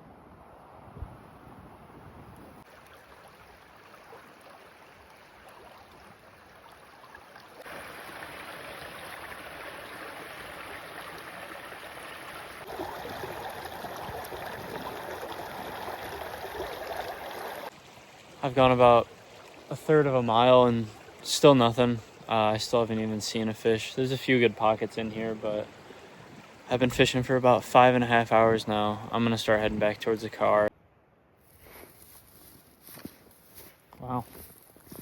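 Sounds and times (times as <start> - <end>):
river water flowing: 2.6 - 30.7.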